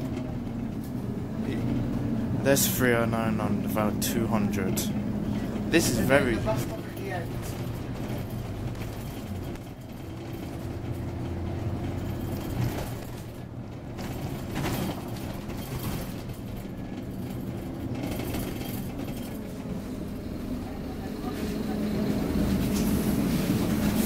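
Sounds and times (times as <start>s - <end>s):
bodywork rattles and clicks: 0.0s - 19.8s
bus engine running: 0.0s - 24.0s.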